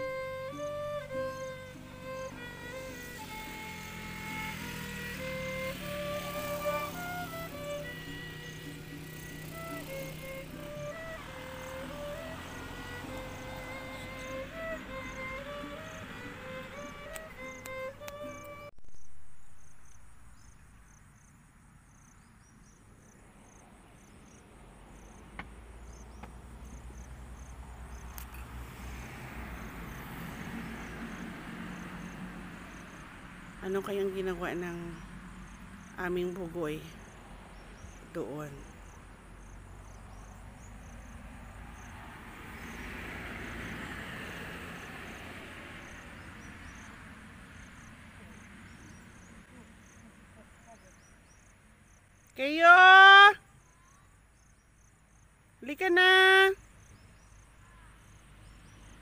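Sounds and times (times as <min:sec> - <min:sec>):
passing vehicle rushing: 0:00.0 - 0:21.0, 0:23.4 - 0:50.3
crickets chirping: 0:00.0 - 0:59.0.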